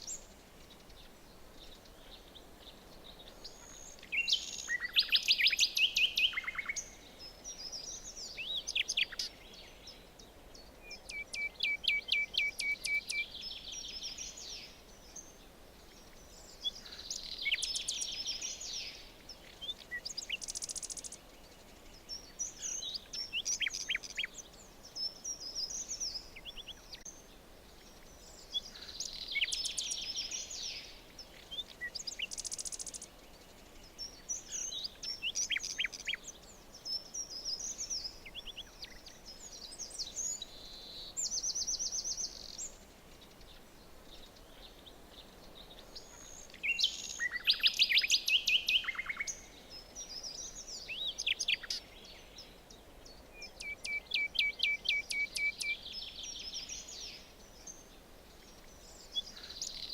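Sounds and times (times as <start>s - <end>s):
bird warbled song phrase: 0.0s - 59.9s
faint ambient hiss: 0.0s - 59.9s
songbirds singing: 0.0s - 59.9s.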